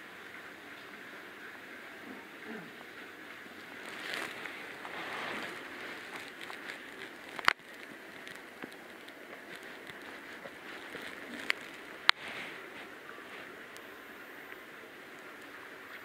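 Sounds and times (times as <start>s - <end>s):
faint water drips: 0.0s - 16.0s
water trickling: 0.0s - 16.0s.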